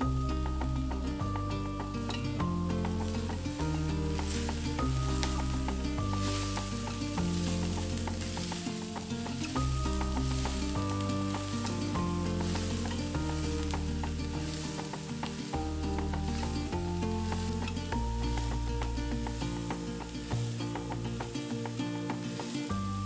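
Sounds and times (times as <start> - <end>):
background music: 0.0 - 23.0
food sizzling in a frying pan: 0.0 - 23.0.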